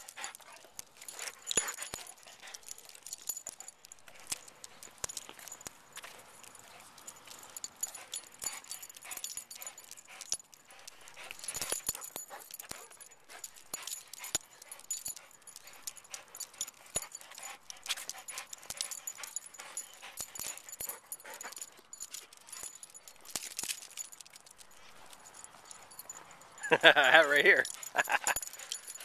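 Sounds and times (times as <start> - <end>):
dog claws clicking on concrete: 0.0 - 26.4, 27.6 - 29.0
dog panting: 0.0 - 29.0.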